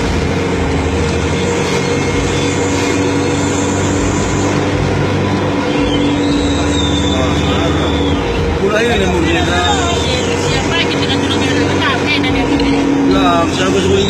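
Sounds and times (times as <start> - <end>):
bus engine drone: 0.0 - 14.0
engine whine: 0.0 - 14.0.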